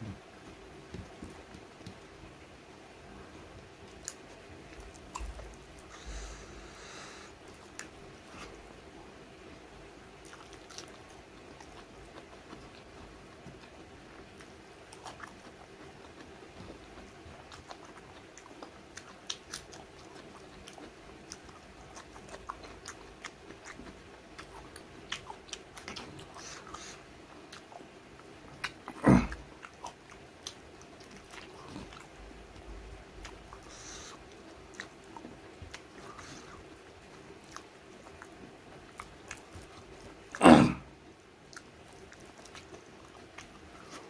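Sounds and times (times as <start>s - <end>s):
man chewing food: 0.0s - 44.0s.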